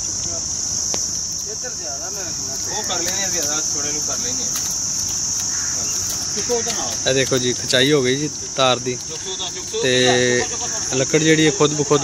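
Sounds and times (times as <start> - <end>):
insects chorus shrill drone: 0.0 - 12.0.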